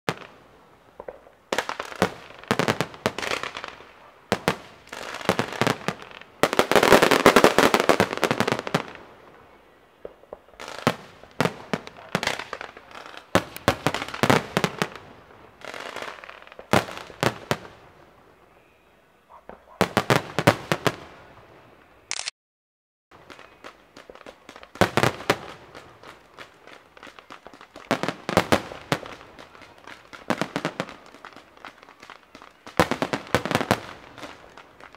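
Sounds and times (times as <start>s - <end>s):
fireworks bangs: 0.1s - 9.4s, 10.0s - 17.9s, 23.2s - 34.9s
fireworks crackling: 0.1s - 18.3s, 23.2s - 34.9s.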